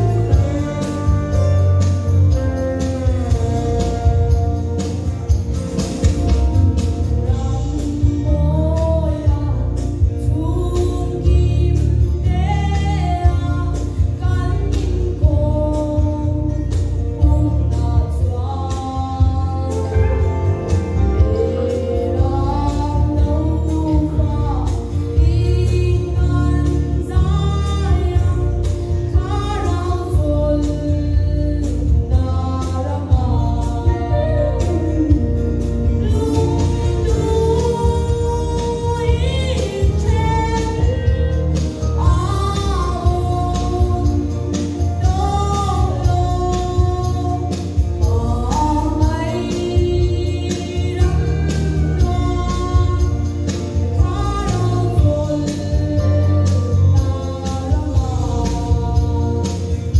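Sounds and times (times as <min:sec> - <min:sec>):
backing track with strong bass: 0:00.0 - 0:59.9
girl singing into a microphone: 0:07.1 - 0:20.2, 0:21.1 - 0:59.9.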